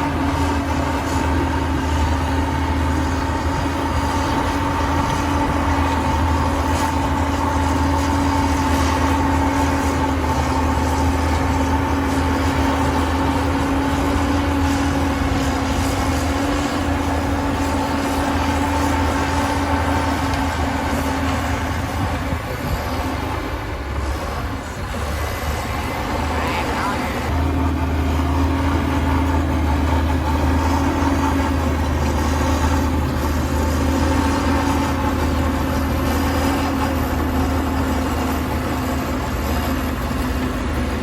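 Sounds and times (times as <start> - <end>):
diesel engine rumbling: 0.0 - 41.0.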